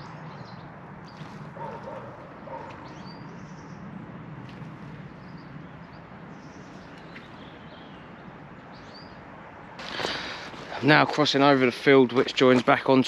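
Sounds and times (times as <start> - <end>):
outdoor hiss and rumble: 0.0 - 13.0.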